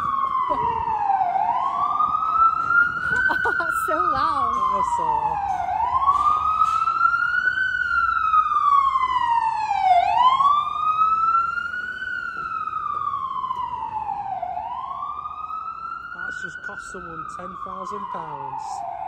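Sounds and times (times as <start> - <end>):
ambulance siren wailing: 0.0 - 19.0.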